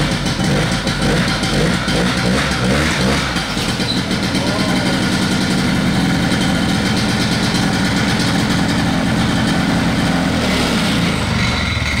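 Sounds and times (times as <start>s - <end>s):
snowmobile two-stroke engine running: 0.0s - 12.0s.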